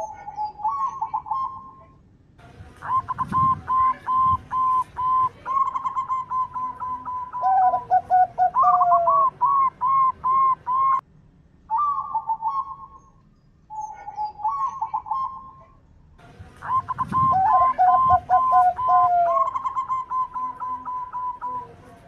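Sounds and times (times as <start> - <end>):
dove cooing: 0.0 - 1.9, 2.8 - 11.0, 11.7 - 13.0, 13.7 - 15.8, 16.6 - 22.0.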